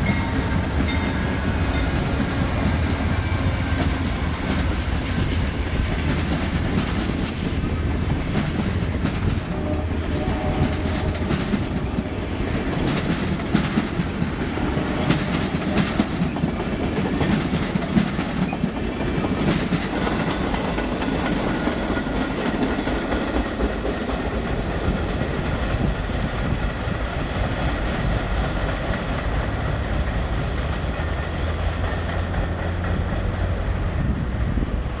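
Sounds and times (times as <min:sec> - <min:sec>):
train rumbling past: 0:00.0 - 0:35.0
wheels clicking over rail joints: 0:00.0 - 0:35.0.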